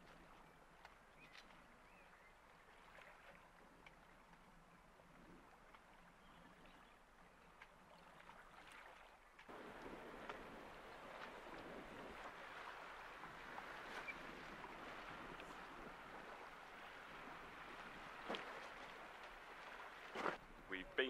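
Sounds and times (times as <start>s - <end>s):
faint water lapping and trickling: 0.0s - 21.0s.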